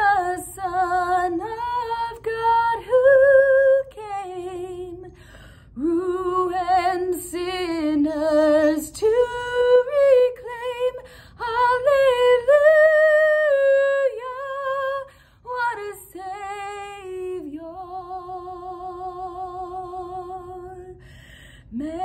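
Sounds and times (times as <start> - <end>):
woman singing a hymn: 0.0 - 22.0.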